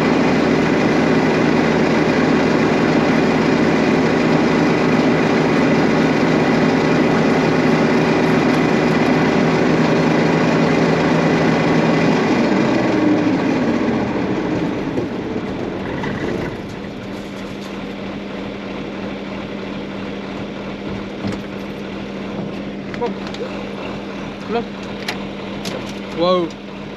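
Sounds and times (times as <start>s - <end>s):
combine harvester running: 0.0s - 26.9s.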